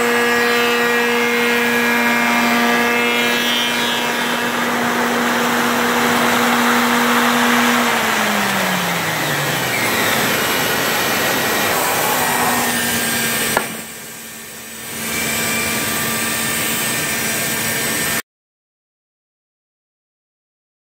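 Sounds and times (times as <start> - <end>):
cnc router running: 0.0 - 18.2.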